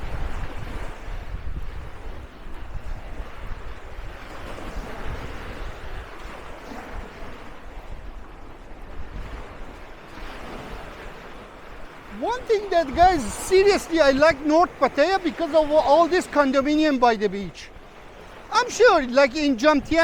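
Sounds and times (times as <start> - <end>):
surf washing on beach: 0.0 - 20.0
wind buffeting microphone: 0.0 - 20.0.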